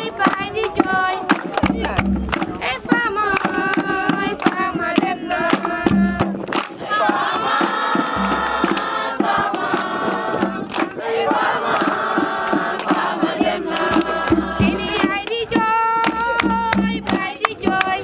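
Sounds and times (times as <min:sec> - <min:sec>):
group of voices singing: 0:00.0 - 0:18.0
sharp rhythmic beats: 0:00.0 - 0:18.0.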